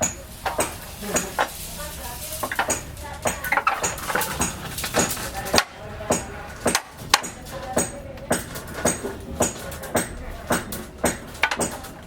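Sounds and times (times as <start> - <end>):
faint voices or music: 0.0 - 12.0
sharp knocks and clinks: 0.0 - 12.0.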